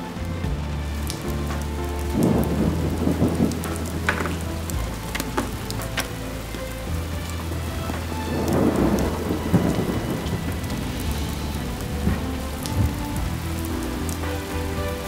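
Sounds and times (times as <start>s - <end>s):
heavy rain falling: 0.0s - 15.0s
thunder rumble: 0.0s - 15.0s.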